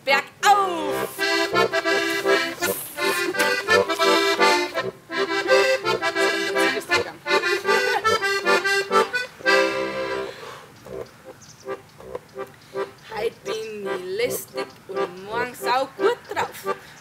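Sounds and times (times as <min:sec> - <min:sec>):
accordion folk tune: 0:00.6 - 0:17.0.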